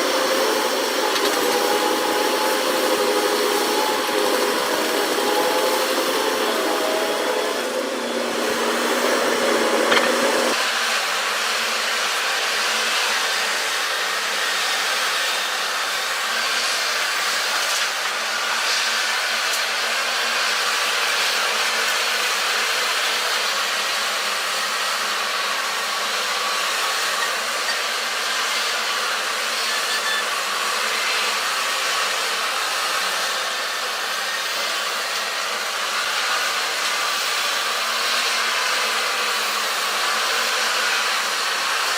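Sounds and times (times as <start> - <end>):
steady whirring machine: 0.0 - 41.9.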